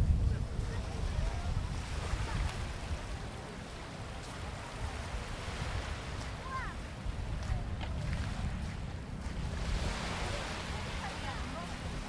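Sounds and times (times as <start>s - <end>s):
sea waves washing onto beach: 0.0s - 12.0s
wind buffeting microphone: 0.0s - 12.0s.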